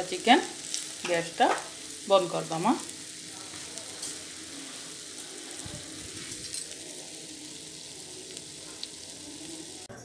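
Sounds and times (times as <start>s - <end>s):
curry sizzling in a frying pan: 0.0s - 9.9s.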